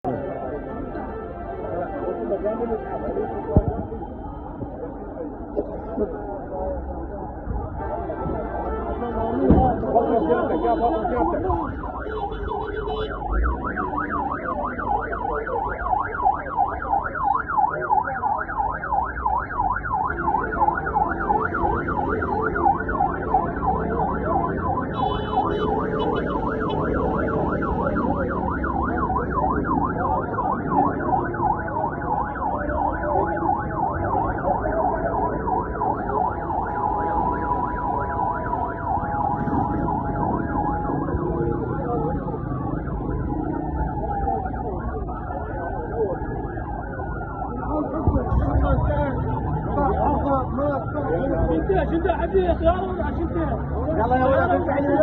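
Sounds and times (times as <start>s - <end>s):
emergency vehicle siren: 0.0s - 55.0s.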